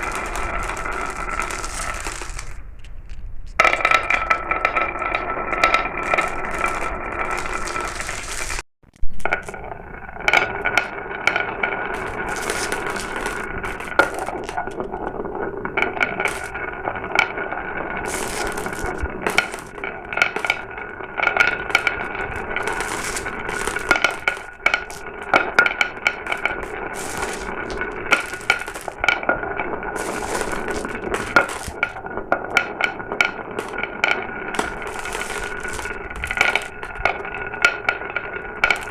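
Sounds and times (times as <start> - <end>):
marbles rolling on track: 0.0 - 8.6, 9.2 - 38.9
marbles clicking and clinking: 0.0 - 38.9.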